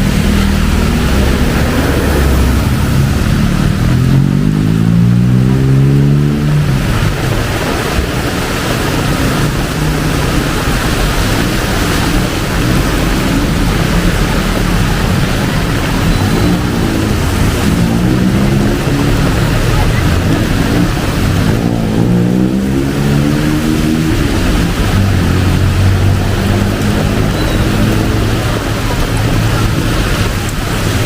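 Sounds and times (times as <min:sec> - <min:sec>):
heavy rain pouring: 0:00.0 - 0:31.0
vehicle accelerating: 0:00.0 - 0:31.0
vehicle engines running: 0:00.0 - 0:31.0.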